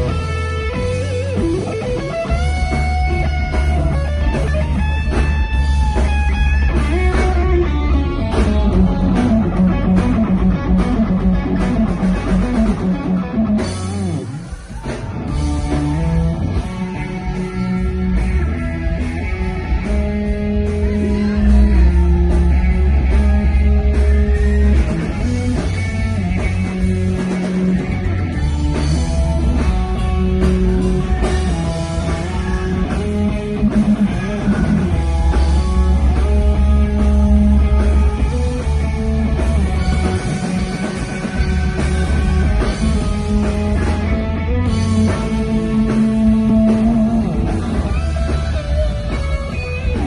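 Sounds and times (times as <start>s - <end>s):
live rock music: 0.0s - 50.0s.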